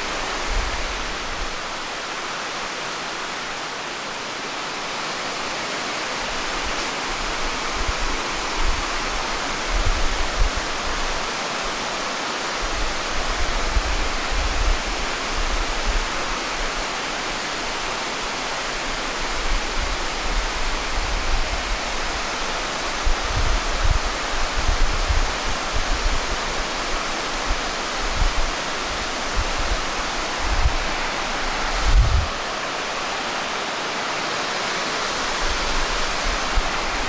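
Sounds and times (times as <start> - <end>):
wind rumbling on microphone: 0.0 - 2.4, 6.1 - 33.8, 34.8 - 37.0
waterfall rushing: 0.0 - 37.0.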